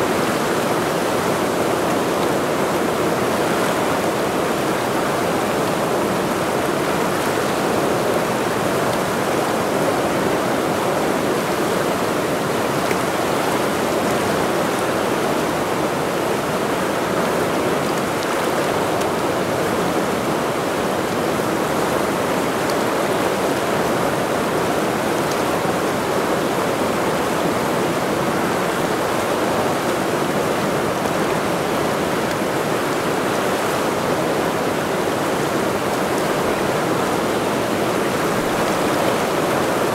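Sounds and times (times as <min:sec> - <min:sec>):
mountain river rushing: 0:00.0 - 0:39.9.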